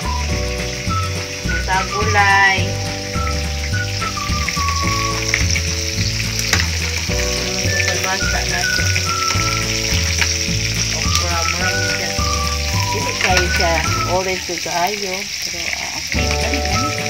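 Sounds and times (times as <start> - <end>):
music with bass line and melody: 0.0 - 14.3, 16.2 - 17.0
food sizzling in a pan: 0.0 - 17.0.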